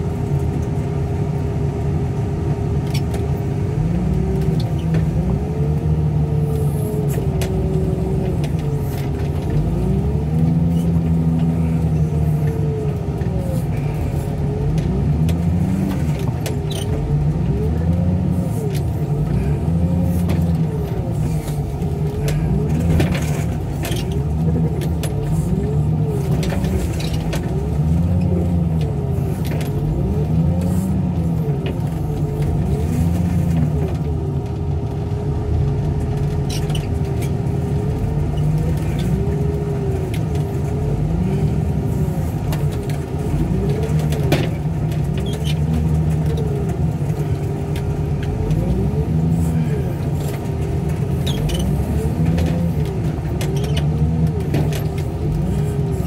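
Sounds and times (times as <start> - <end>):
heavy equipment engine running: 0.0 - 56.0.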